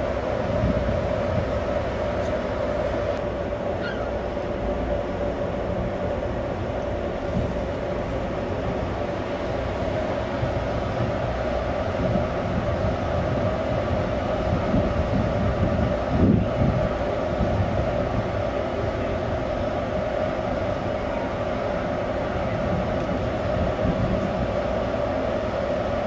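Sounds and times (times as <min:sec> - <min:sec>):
ship engines droning: 0:00.0 - 0:26.0.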